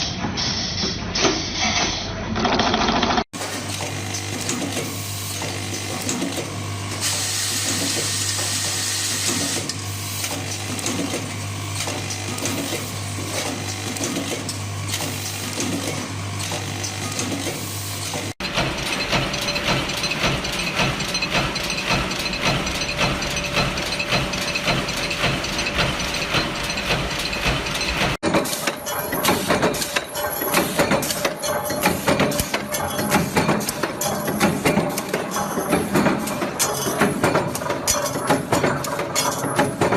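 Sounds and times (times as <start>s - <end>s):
factory machinery clattering: 0.0s - 39.9s.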